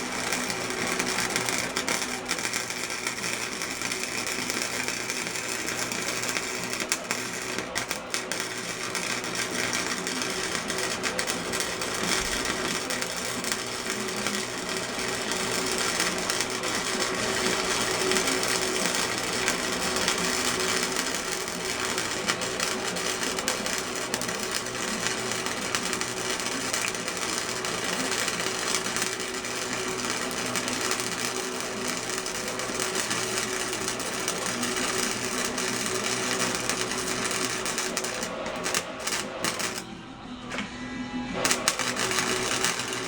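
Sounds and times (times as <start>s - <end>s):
welding arc crackling: 0.0s - 40.0s, 41.4s - 43.0s.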